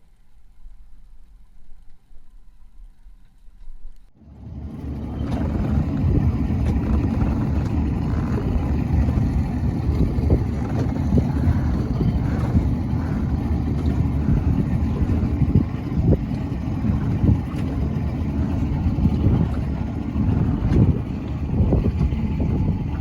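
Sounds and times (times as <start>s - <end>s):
wind rumbling on microphone: 0.8s - 23.0s
motorboat engine running: 4.2s - 23.0s.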